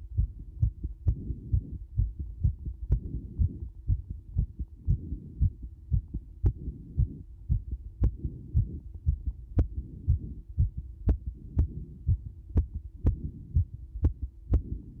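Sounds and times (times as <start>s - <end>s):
heartbeat thumping: 0.0s - 15.0s.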